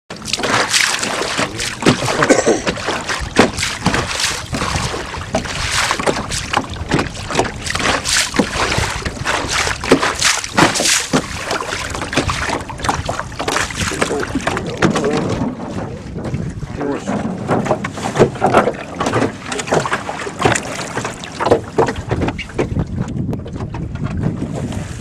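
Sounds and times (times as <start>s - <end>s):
water splashing against boat hull: 0.1s - 25.0s.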